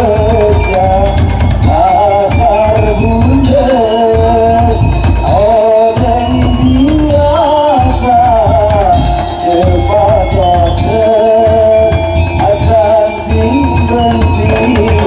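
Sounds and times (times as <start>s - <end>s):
heavy drums beating: 0.0s - 15.0s
wavering melody line: 0.0s - 15.0s.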